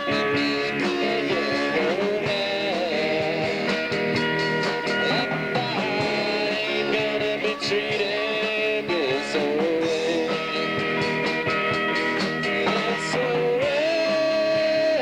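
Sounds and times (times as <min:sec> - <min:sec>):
guitar lead bending notes: 0:00.0 - 0:15.0
live rock band playing: 0:00.0 - 0:15.0.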